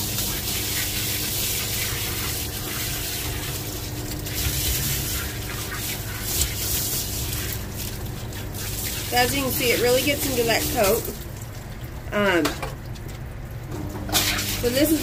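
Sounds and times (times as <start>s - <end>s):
water spraying from shower nozzle: 0.0s - 11.3s, 14.2s - 15.0s
pump humming: 0.0s - 15.0s.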